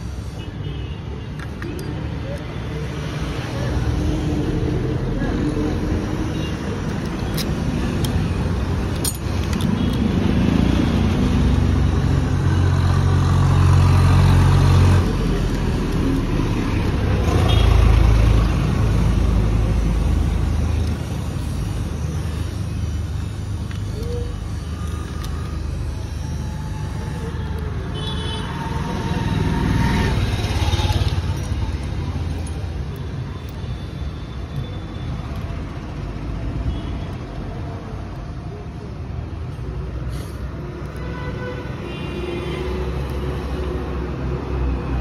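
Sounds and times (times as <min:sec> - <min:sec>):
vehicle engine rumbling: 0:01.2 - 0:45.0.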